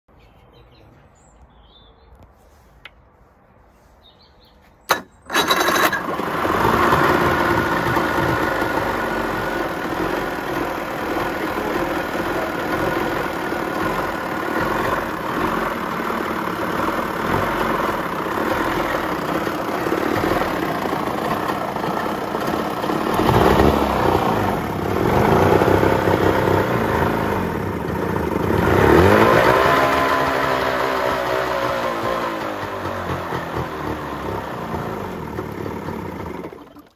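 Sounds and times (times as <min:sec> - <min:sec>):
outboard motor running: 0:04.9 - 0:36.9.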